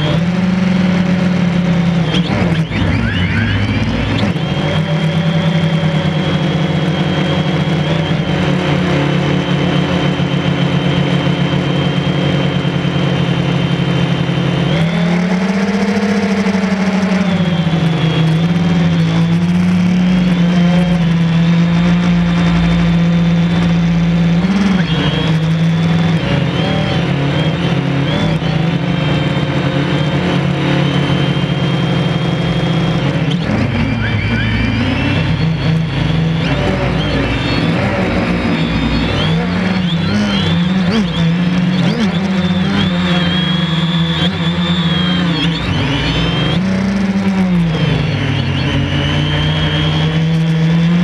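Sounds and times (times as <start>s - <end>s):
drone propellers buzzing: 0.0s - 51.0s.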